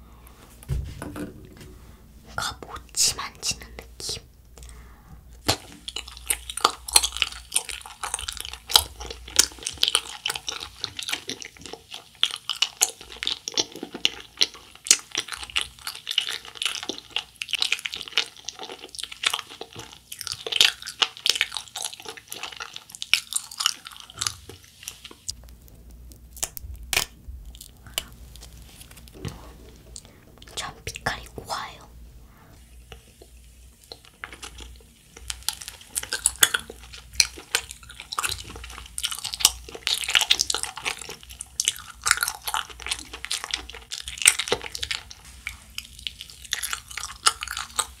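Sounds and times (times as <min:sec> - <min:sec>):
wet chewing of gummy candy: 0:05.4 - 0:31.8, 0:32.5 - 0:48.0.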